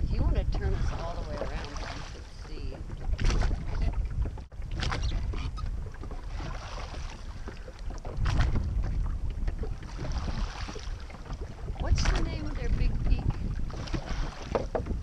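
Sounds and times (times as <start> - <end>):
oars splashing through water: 0.0 - 15.0
wind rumble on microphone: 0.0 - 15.0.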